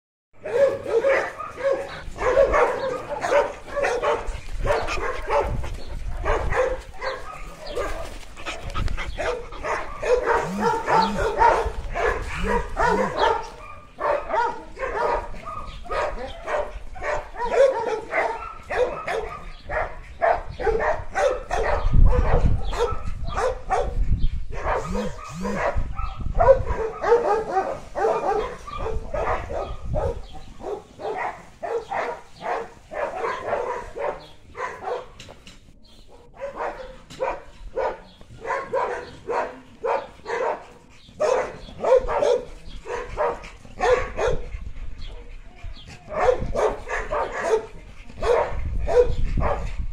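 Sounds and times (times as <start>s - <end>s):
dogs barking: 0.4s - 35.4s, 36.1s - 49.9s.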